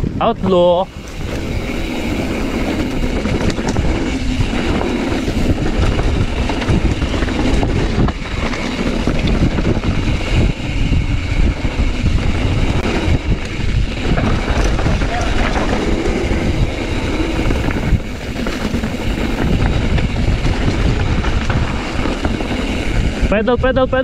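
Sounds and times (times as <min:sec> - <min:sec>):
bike rattling on rough ground: 0:00.0 - 0:24.0
wind buffeting microphone: 0:00.0 - 0:24.0.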